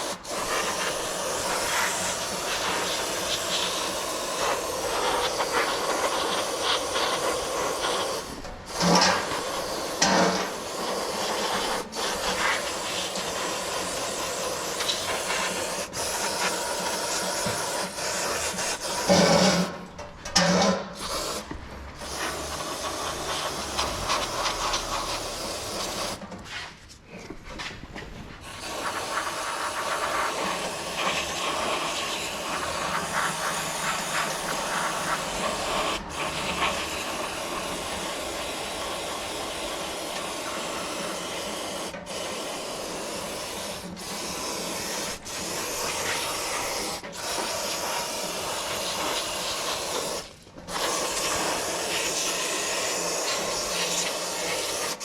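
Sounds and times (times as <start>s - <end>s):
aerosol spray hissing: 0.0s - 19.7s, 21.0s - 26.2s, 28.4s - 55.0s.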